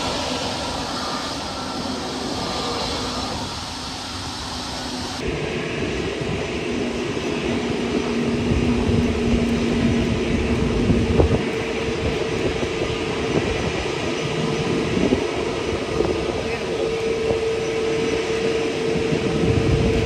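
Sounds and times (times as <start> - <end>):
jet engines rumbling: 0.0 - 20.0
low hum: 0.0 - 20.0.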